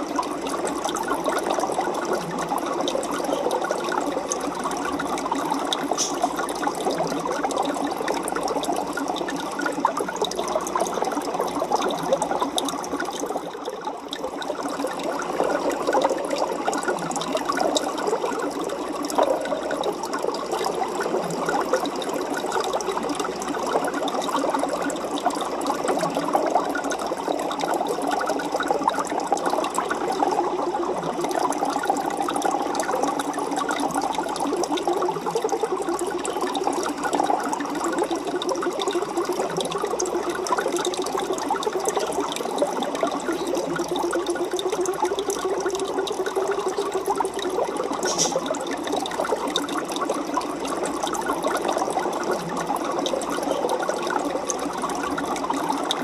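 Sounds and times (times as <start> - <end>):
aquarium water bubbling: 0.0 - 56.0.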